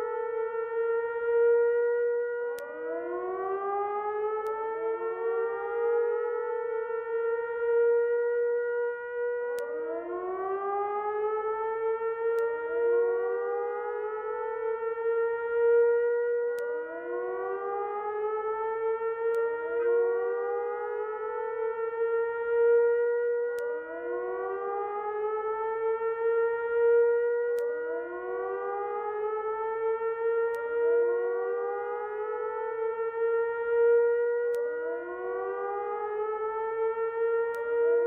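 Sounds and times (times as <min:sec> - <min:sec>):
siren-like rising wailing: 0:00.0 - 0:38.0.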